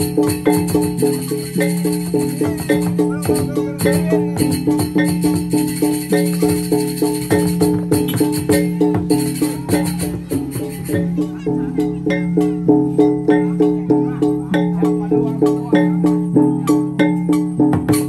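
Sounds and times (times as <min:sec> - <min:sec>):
gamelan playing: 0:00.0 - 0:18.0.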